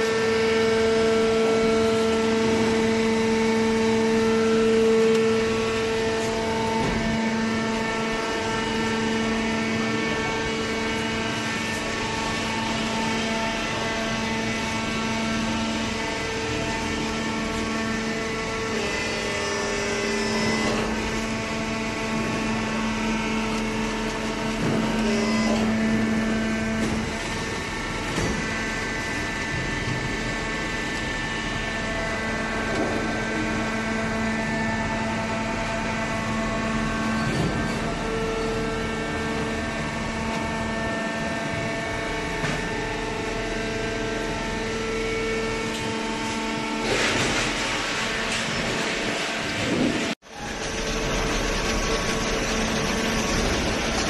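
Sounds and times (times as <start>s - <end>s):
baler motor and pump humming: 0.0s - 54.0s.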